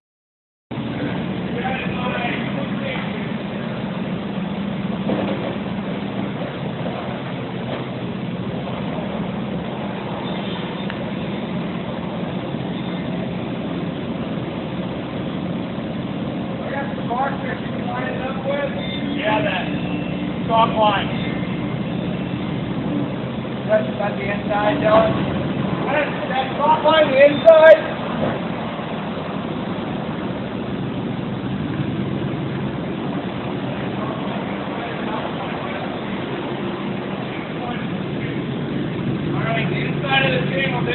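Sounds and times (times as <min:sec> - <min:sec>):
machinery engine hum: 0:00.7 - 0:40.9.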